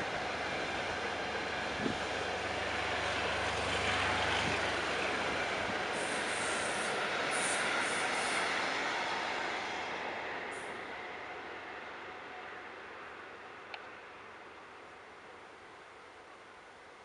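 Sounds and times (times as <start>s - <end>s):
freight train rumbling over bridge: 0.0s - 17.0s.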